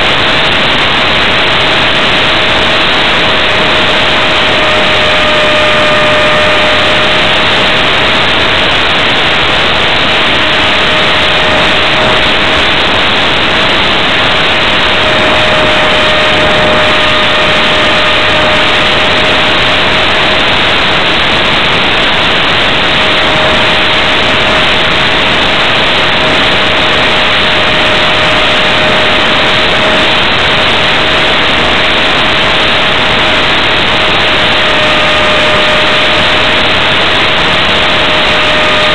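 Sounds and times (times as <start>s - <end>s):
electric motor and propeller whine: 0.0s - 38.9s
rushing wind noise: 0.0s - 38.9s.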